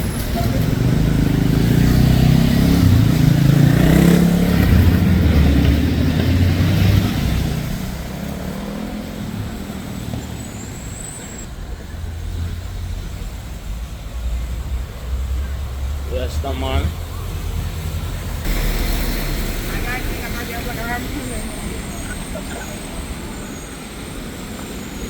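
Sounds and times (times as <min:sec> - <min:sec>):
large vehicle engine running: 0:00.0 - 0:25.0
traffic rumble: 0:00.0 - 0:25.0.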